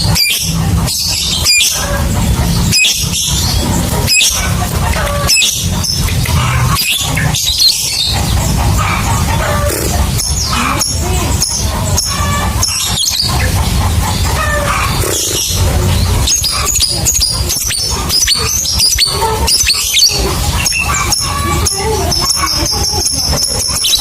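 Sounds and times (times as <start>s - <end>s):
steady low rumble: 0.0s - 23.5s.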